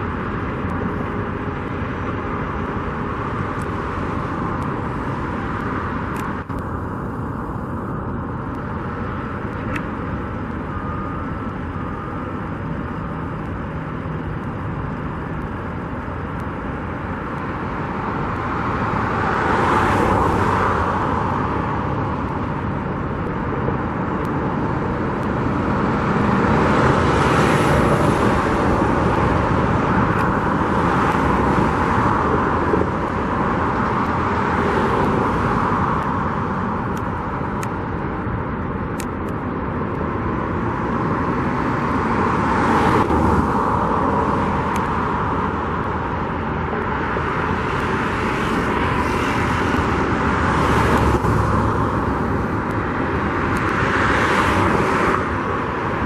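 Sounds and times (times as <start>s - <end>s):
cars passing by: 0.0s - 56.0s.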